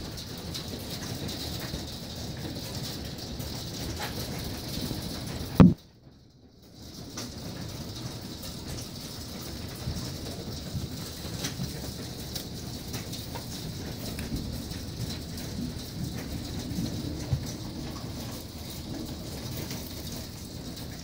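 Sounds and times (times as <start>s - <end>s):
hail pattering on concrete: 0.0s - 21.0s.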